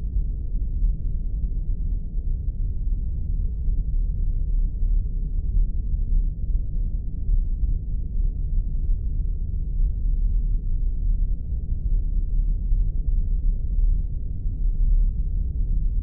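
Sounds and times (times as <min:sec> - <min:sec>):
deep rumbling drone: 0:00.0 - 0:16.0.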